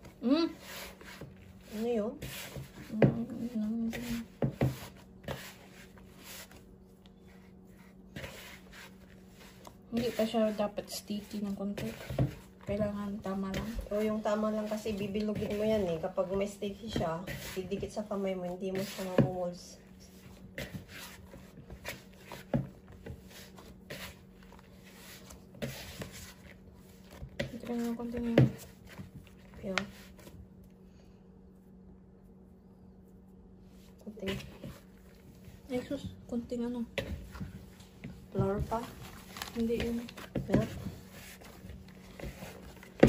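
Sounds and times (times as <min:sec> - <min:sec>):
hand kneading sticky dough: 0:00.0 - 0:43.0.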